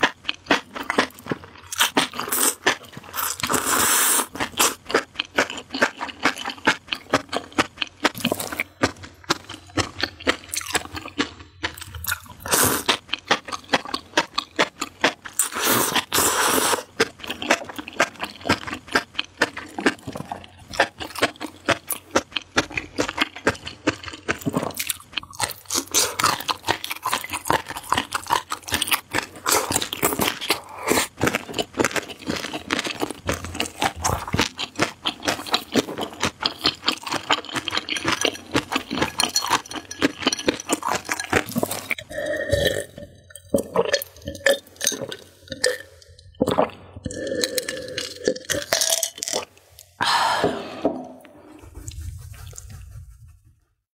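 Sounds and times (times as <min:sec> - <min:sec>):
person chewing crunchy food: 0:00.0 - 0:53.1.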